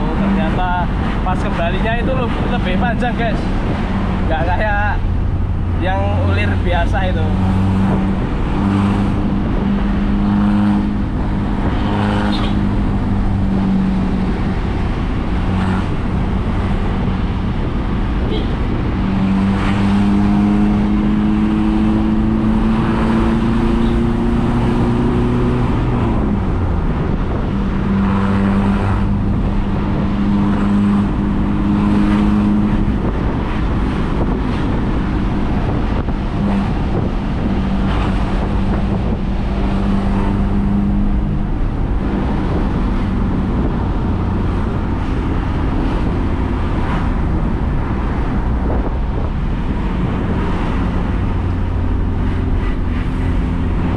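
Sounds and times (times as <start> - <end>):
diesel engine with deep exhaust: 0.0 - 53.9.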